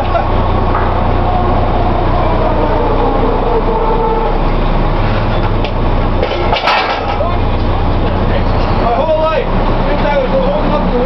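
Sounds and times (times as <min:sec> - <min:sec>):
loud drilling rig machinery: 0:00.0 - 0:11.0.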